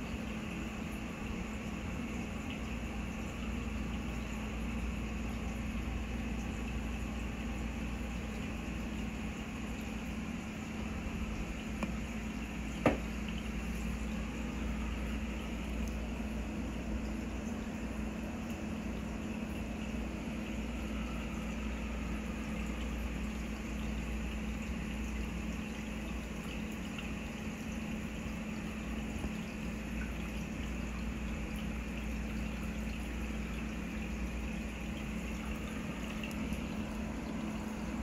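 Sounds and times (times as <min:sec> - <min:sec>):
aquarium pump hum: 0:00.0 - 0:38.0
bubbling water: 0:00.0 - 0:38.0.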